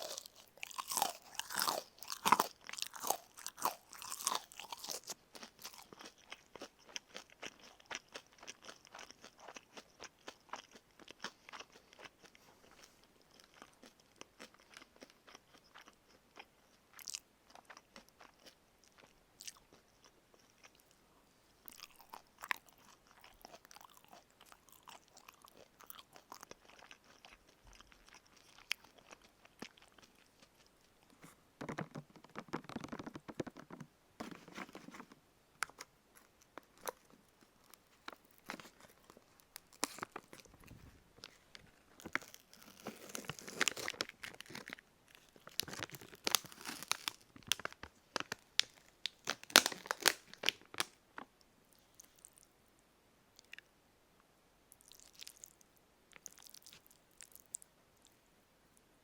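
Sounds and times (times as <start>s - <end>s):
crunchy fried chicken chewing: 0.0s - 21.0s, 21.6s - 50.9s, 54.8s - 57.7s.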